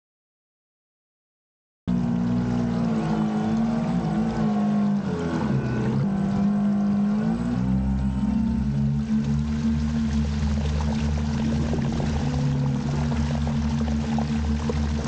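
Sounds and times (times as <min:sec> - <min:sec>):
model boat motor running: 0:01.9 - 0:15.0.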